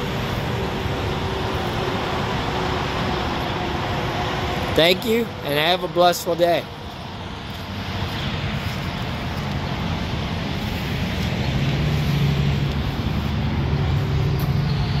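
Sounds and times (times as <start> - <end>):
engine noise: 0.0 - 15.0.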